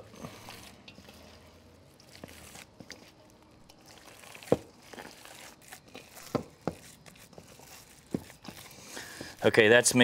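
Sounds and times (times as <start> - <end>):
hands kneading meat in bowl: 0.0 - 10.0.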